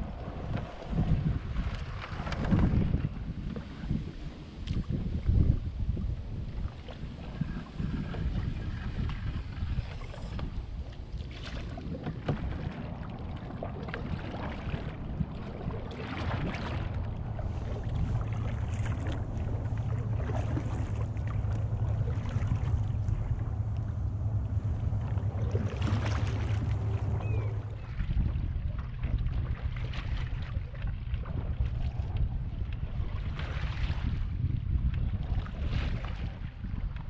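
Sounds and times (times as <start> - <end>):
paddle strokes splashing: 0.0 - 37.0
wind on microphone: 0.0 - 37.0.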